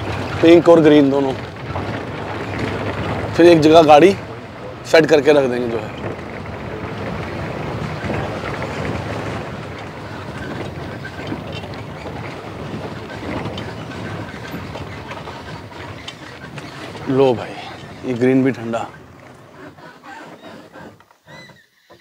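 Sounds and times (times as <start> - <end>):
jeep engine running: 0.0 - 21.0
vehicle rattle and rumble on dirt: 0.0 - 22.0.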